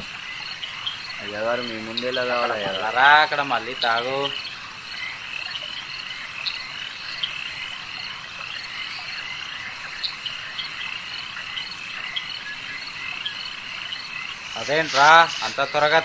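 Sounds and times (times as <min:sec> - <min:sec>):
frogs calling: 0:00.0 - 0:16.0.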